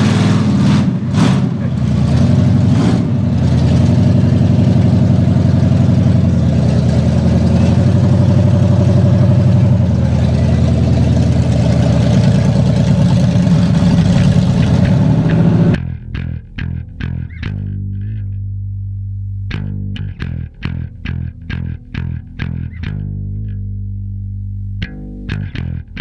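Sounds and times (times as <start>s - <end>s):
truck engine at low revs: 0.0s - 26.0s.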